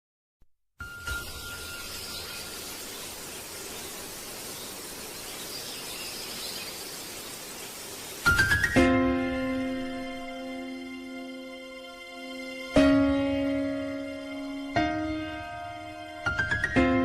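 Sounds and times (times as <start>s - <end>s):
steady hiss: 0.8s - 16.7s.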